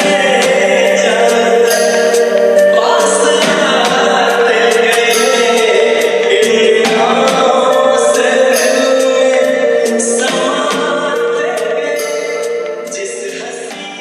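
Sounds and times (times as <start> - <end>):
ringtone music with choir-like vocals: 0.0 - 14.0.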